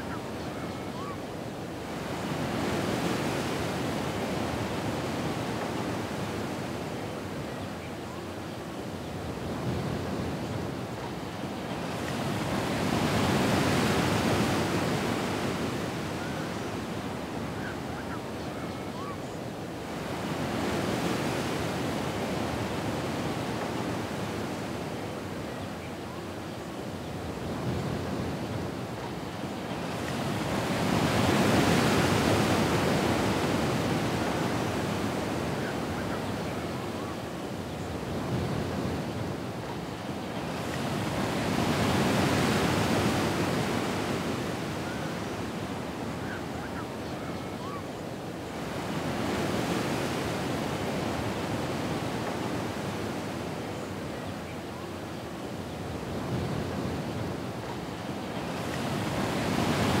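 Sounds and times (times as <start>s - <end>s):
ocean waves washing ashore: 0.0s - 60.0s.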